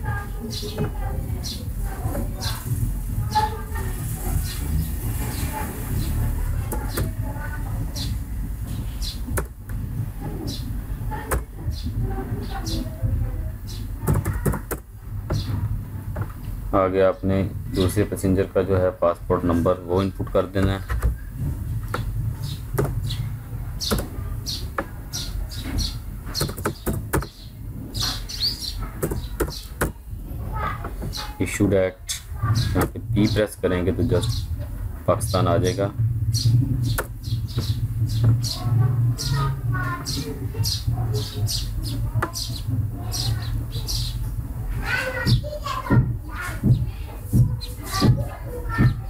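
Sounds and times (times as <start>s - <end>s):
low background rumble: 0.0s - 31.4s, 32.2s - 49.0s.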